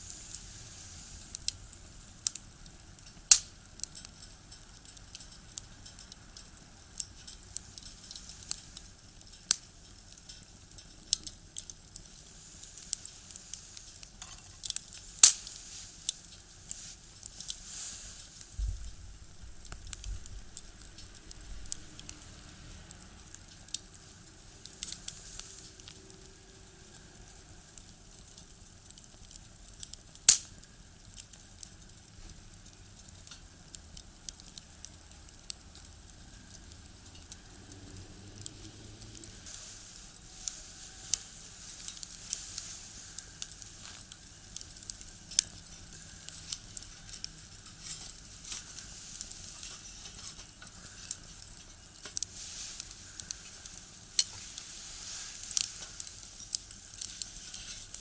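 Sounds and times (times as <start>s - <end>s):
firewood crackling in a stove: 0.0s - 58.0s.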